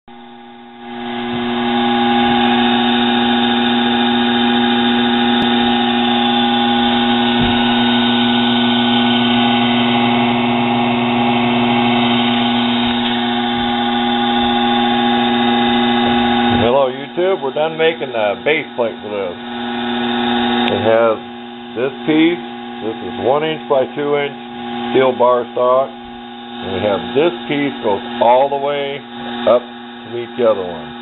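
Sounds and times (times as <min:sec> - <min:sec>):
benchtop lathe motor humming: 0:00.1 - 0:31.0.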